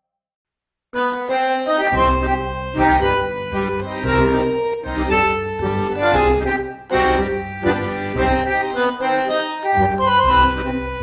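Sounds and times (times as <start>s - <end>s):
background music with bass line: 1.7s - 11.0s.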